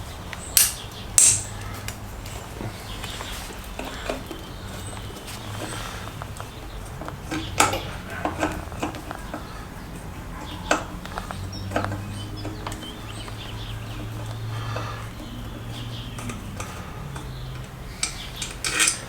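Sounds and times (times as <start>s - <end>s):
hand tools clinking on metal: 0.4s - 19.0s.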